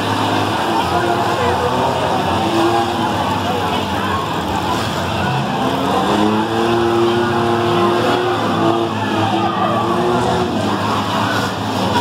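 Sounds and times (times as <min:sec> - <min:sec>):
minivan engines revving: 0:00.0 - 0:12.0.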